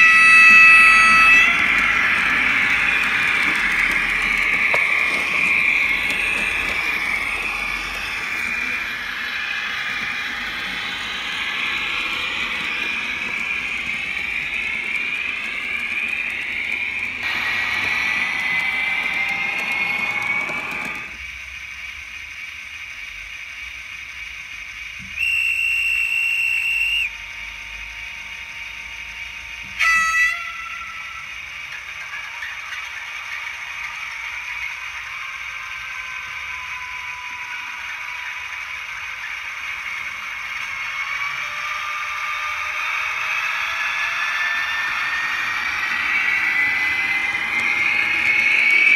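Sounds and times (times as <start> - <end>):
model locomotive diesel engine sound: 0.0 - 48.9.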